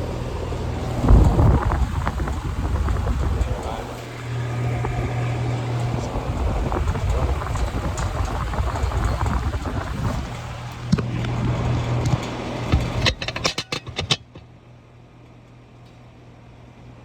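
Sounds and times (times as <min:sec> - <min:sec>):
compressor humming: 0:00.0 - 0:14.9
condenser fan rushing air: 0:00.0 - 0:17.0.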